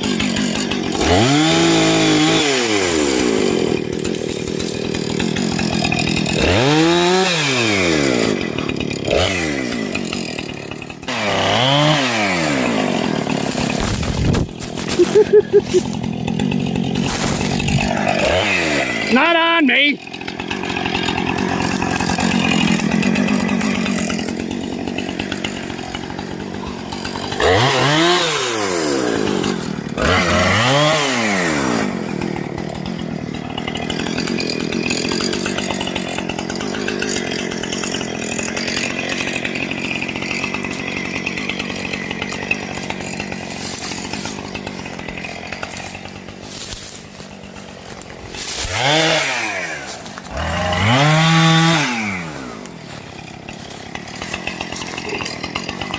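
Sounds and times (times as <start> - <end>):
chainsaw running and revving: 0.0 - 55.9.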